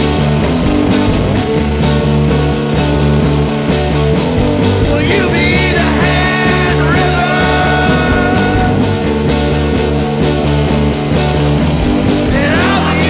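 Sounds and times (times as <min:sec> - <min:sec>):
rock music with steady beat: 0:00.0 - 0:13.0.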